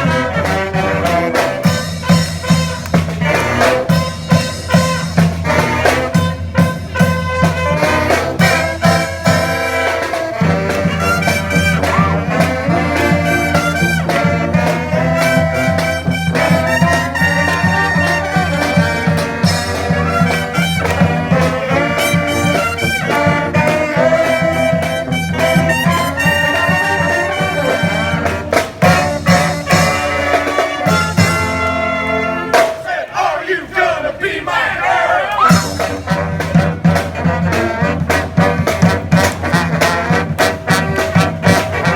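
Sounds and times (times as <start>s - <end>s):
drum beat: 0.0s - 31.7s, 35.4s - 41.9s
brass band playing: 0.0s - 41.9s.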